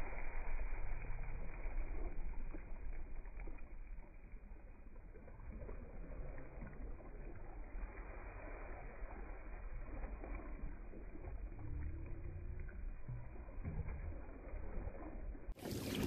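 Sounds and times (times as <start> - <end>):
paddles splashing in water: 0.0 - 16.0
steady low rumble: 0.0 - 16.0.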